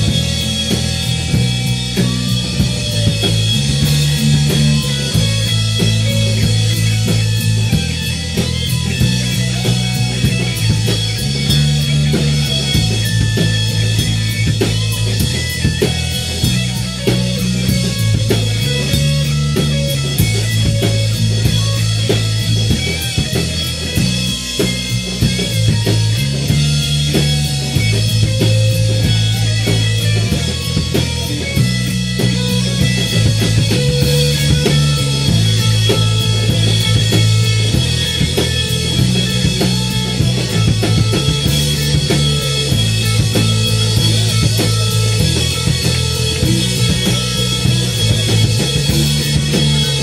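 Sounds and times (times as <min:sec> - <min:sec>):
drums: 0:00.0 - 0:50.0
electric guitar: 0:00.0 - 0:50.0
repeating low bass line: 0:00.0 - 0:50.0
rock band playing: 0:00.0 - 0:50.0.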